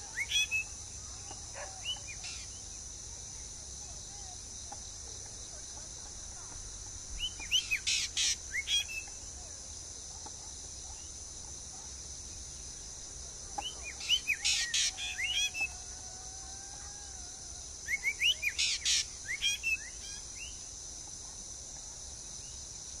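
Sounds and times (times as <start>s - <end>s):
songbird chirping: 0.0s - 12.4s, 13.5s - 20.6s
high buzz of insects: 0.0s - 23.0s.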